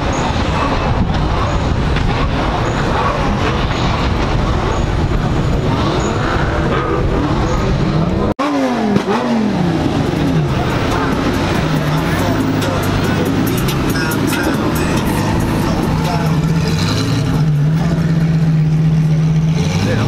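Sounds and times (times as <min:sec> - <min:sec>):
car engines idling: 0:00.0 - 0:20.0
engine revving: 0:00.0 - 0:20.0.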